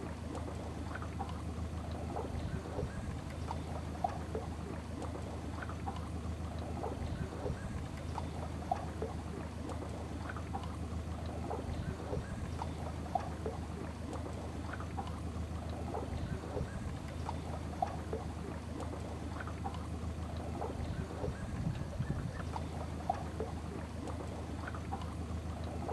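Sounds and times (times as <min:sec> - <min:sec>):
outboard motor humming: 0:00.0 - 0:25.9
water splashing against hull: 0:00.0 - 0:25.9.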